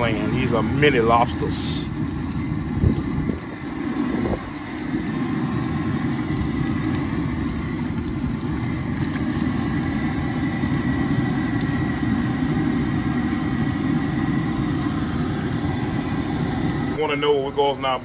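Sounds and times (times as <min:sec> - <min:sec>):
churning water: 0:00.0 - 0:18.0
faint steady whine: 0:00.0 - 0:18.0
machine hum: 0:00.0 - 0:18.0.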